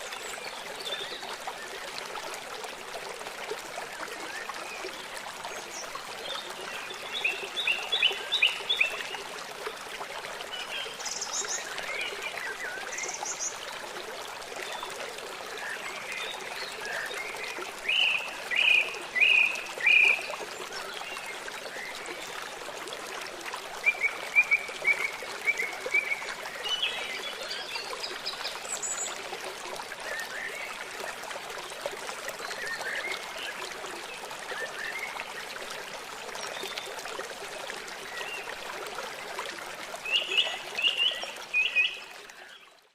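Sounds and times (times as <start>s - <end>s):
stream running: 0.0s - 42.9s.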